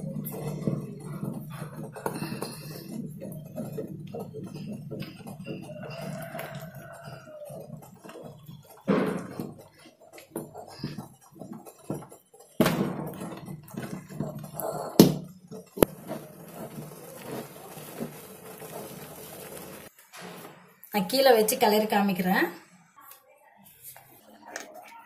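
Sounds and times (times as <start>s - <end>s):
wooden stick scraping a pot: 0.0s - 20.6s.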